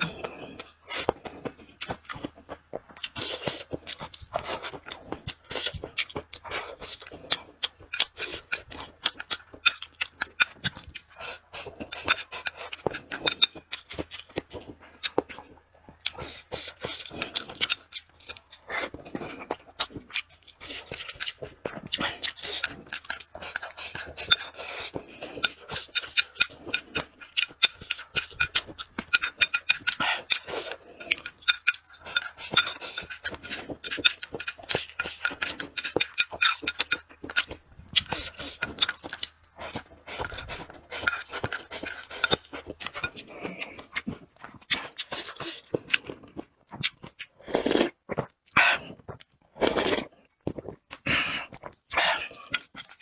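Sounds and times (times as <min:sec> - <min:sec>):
slurping: 0:00.0 - 0:53.0
wet chewing: 0:00.0 - 0:53.0.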